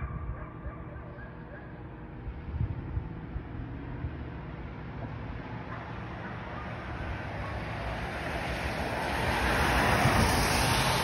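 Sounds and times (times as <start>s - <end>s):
vehicle tyre and road noise: 1.9s - 11.0s.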